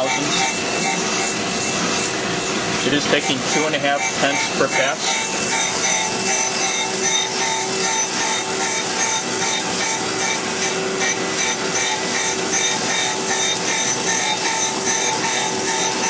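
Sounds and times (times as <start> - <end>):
grinder machine hum: 0.0 - 16.0
grinding wheel rasping on steel: 0.0 - 16.0.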